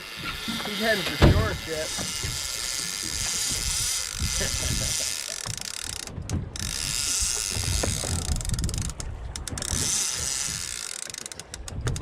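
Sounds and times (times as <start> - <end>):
fishing reel ratcheting: 0.0 - 12.0
wind buffeting microphone: 1.2 - 10.8, 11.6 - 12.0.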